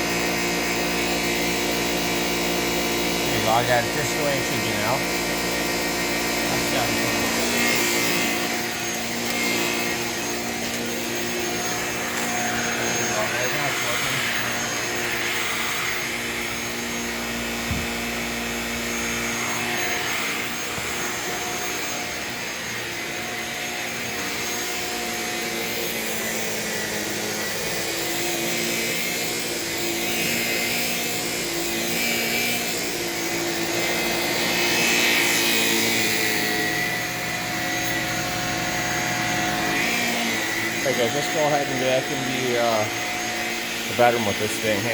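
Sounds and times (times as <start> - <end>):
stick vacuum motor hum: 0.0 - 44.9.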